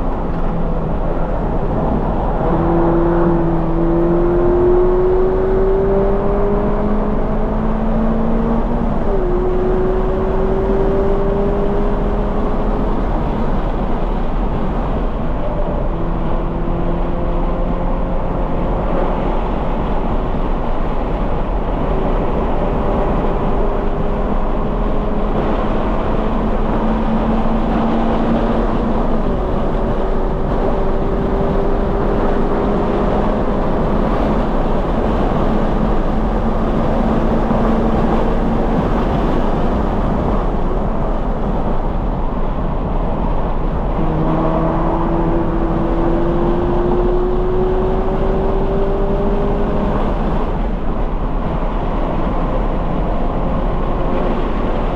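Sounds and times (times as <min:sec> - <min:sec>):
car engine revving: 0:00.0 - 0:54.9
wind noise: 0:00.0 - 0:54.9.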